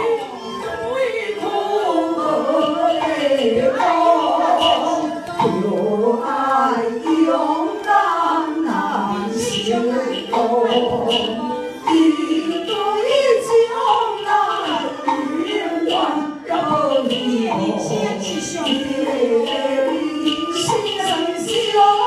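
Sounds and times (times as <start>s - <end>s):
women singing in unison: 0.0s - 22.0s.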